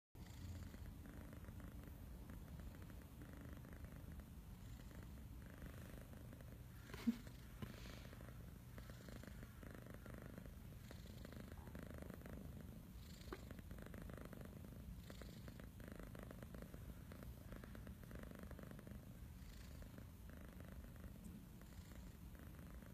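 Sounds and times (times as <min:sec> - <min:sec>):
kitten purring: 0:00.2 - 0:22.9.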